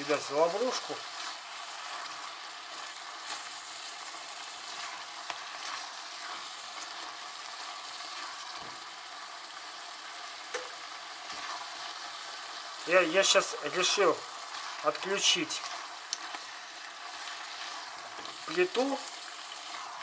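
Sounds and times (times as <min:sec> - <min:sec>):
chicken sizzling in a pot: 0:00.0 - 0:20.0.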